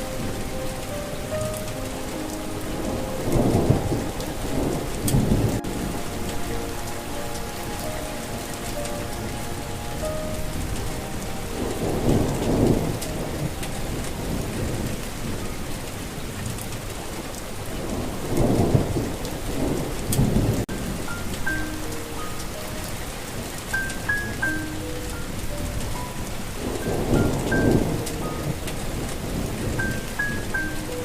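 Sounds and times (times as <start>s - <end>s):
sparse melody notes: 0.0s - 16.1s, 20.7s - 31.0s
steady rain: 0.0s - 31.0s
thunder rolling: 0.0s - 31.0s.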